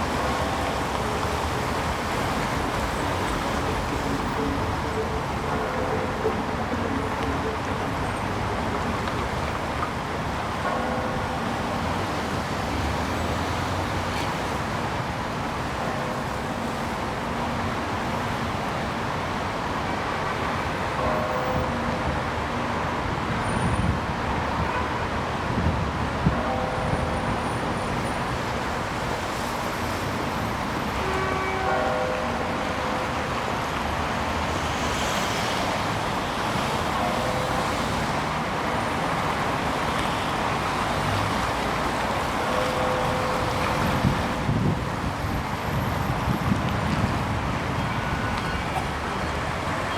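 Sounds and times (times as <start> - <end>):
passing cars: 0.0 - 49.9.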